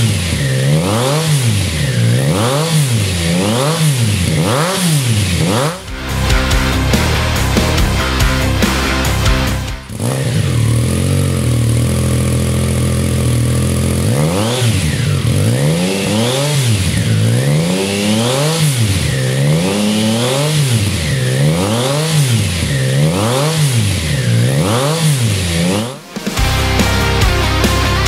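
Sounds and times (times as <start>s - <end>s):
motorcycle engine throttle blips: 0.0s - 26.3s
motorcycle engine idling: 0.0s - 28.0s.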